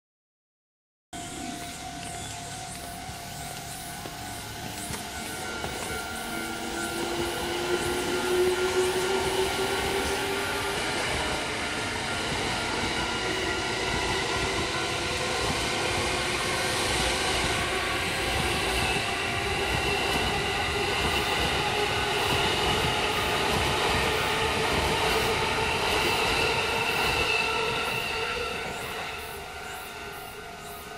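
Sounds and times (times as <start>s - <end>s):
electric train passing: 1.2s - 30.9s
rail and wheel noise: 1.2s - 30.9s
train motor whine: 1.2s - 30.9s.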